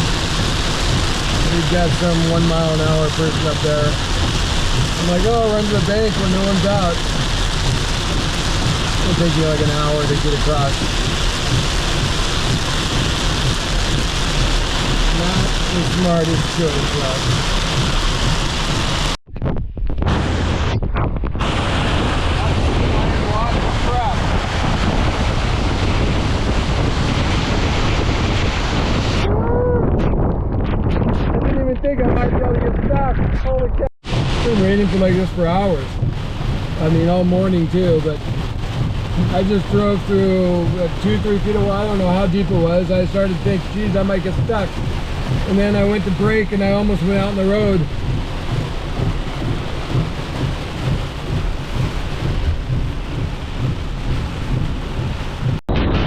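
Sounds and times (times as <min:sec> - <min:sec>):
heavy downpour and flood water: 0:00.0 - 0:19.2, 0:20.0 - 0:30.0, 0:31.3 - 0:56.0
heavy rain rushing: 0:00.0 - 0:19.2, 0:20.0 - 0:20.7, 0:21.3 - 0:29.9, 0:34.0 - 0:56.0
low rumble: 0:00.0 - 0:56.0
wind buffeting microphone: 0:00.0 - 0:56.0.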